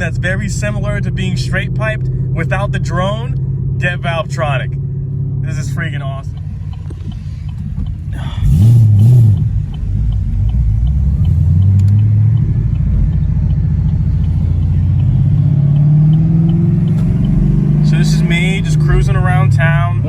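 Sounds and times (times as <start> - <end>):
car engine accelerating: 0.0 - 20.0
car engine revving: 0.0 - 20.0.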